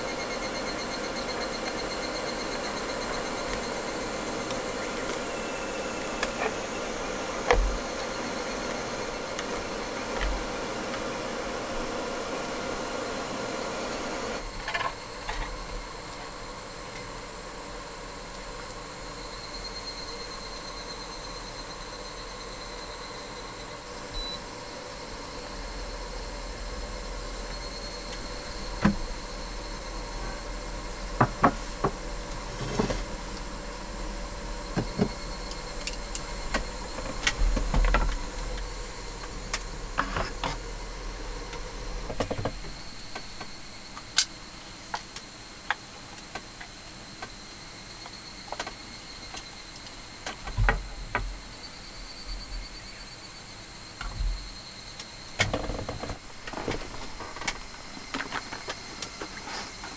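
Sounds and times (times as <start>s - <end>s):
faint high insect trill: 0.0s - 59.9s
steady background hiss: 0.0s - 59.9s.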